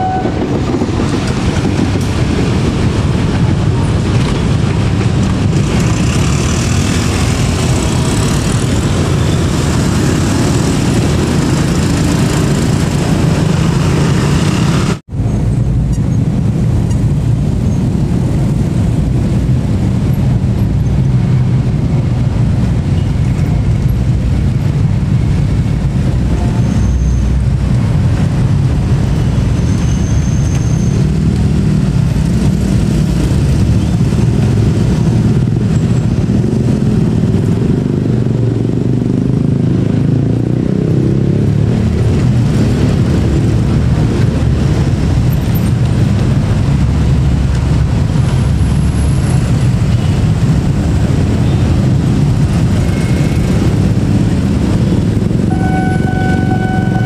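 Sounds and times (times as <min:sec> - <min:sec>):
motorcycle engines rumbling: 0:00.0 - 0:57.0.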